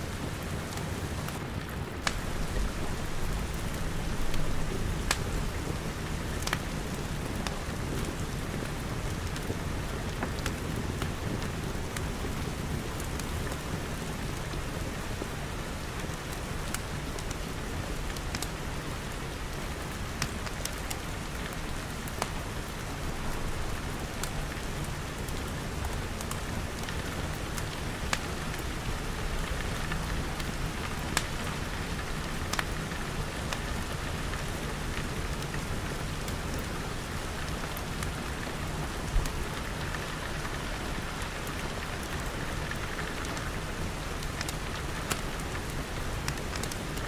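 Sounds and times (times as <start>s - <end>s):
rain pattering: 0.0s - 47.0s
wood fire crackling: 0.1s - 47.0s.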